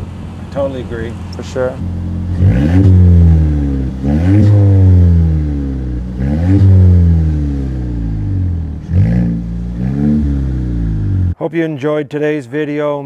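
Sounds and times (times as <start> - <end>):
car engine revving: 0.0 - 11.4.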